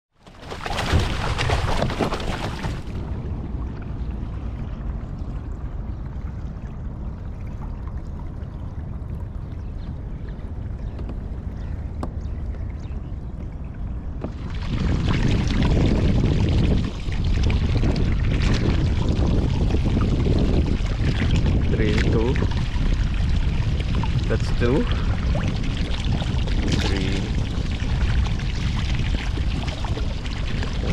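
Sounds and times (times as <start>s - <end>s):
water splashing and sloshing: 0.1s - 30.9s
low rush of water and wind: 0.2s - 30.9s.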